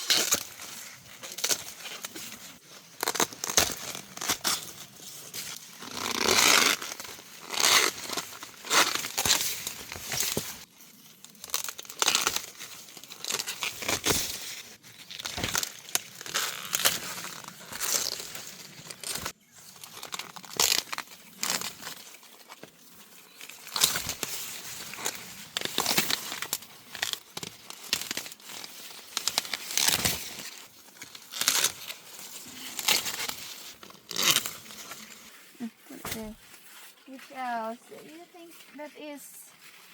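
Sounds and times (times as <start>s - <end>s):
corn leaves and husks rustling: 0.0s - 39.9s.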